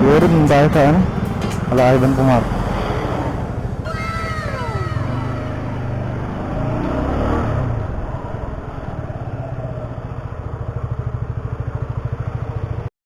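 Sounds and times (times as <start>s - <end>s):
vehicle engine idling: 0.0s - 12.9s.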